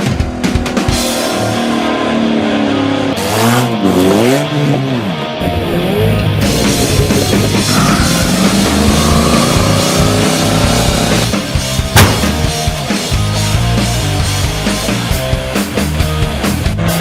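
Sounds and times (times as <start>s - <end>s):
rock music with drums and guitar: 0.0s - 1.9s, 2.6s - 17.0s.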